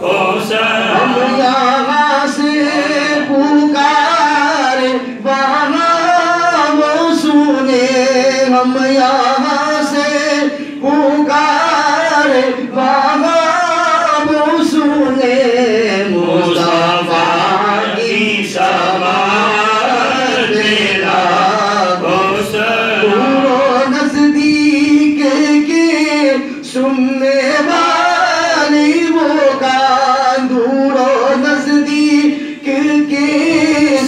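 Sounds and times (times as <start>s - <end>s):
man singing into a microphone: 0.0s - 34.0s.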